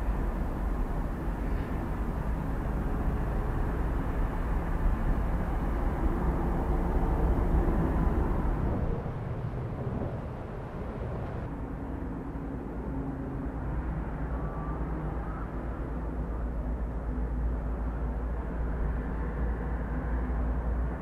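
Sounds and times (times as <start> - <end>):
deep rumble of erupting volcano: 0.0 - 21.0
faint hum: 0.0 - 21.0.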